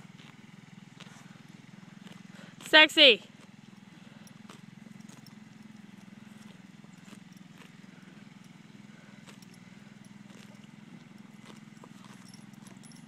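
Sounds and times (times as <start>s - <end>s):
hoofbeats on grass: 0.0s - 13.0s
steady low hum: 0.0s - 13.0s.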